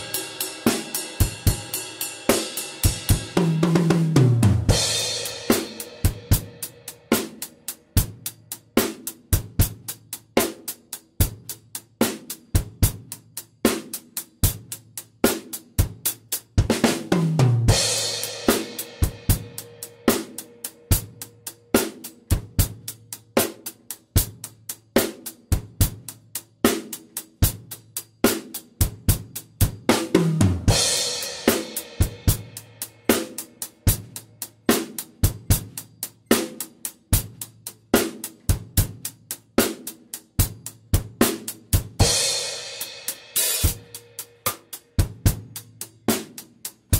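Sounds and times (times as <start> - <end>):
drum kit groove: 0.0 - 46.9.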